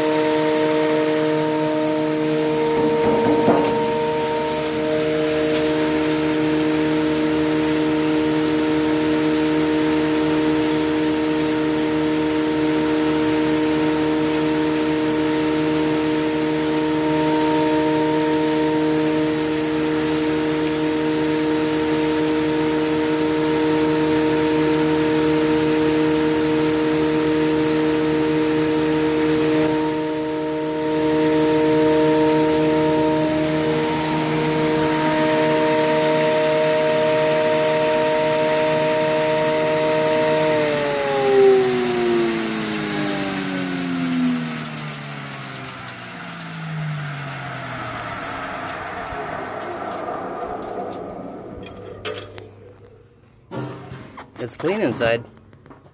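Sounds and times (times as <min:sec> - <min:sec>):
hammer mill grinding wood: 0:00.0 - 0:55.8.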